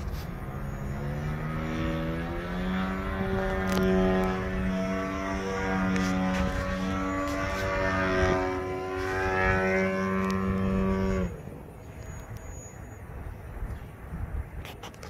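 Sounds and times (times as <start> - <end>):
model airplane engine and propeller: 0.0 - 15.0.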